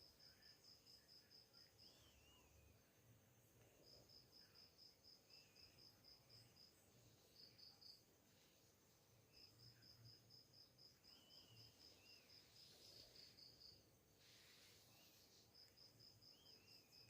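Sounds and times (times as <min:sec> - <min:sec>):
faint insect chirping: 0:00.0 - 0:17.0.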